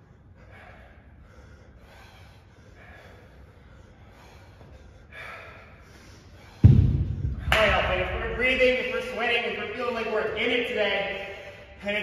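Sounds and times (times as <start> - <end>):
man breathing heavily: 0.0 - 7.5, 9.5 - 12.0.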